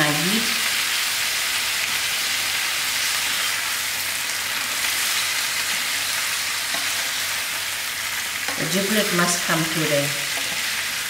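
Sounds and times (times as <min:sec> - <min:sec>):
giblets sizzling in oil: 0:00.0 - 0:11.0.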